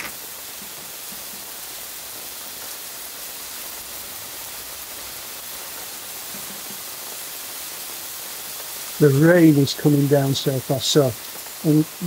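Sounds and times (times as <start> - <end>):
burgers sizzling on a hot plate: 0.0 - 12.0
heavy rain falling: 0.0 - 12.0.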